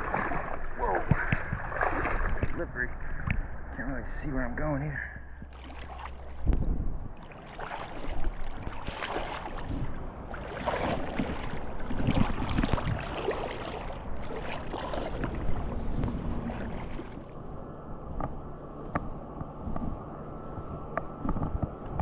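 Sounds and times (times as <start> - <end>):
wading through shallow water: 0.0 - 22.0.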